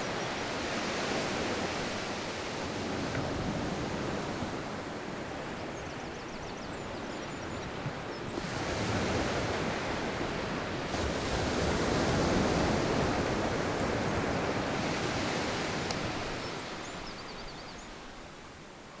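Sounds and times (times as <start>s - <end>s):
sea waves breaking on a beach: 0.0s - 19.0s.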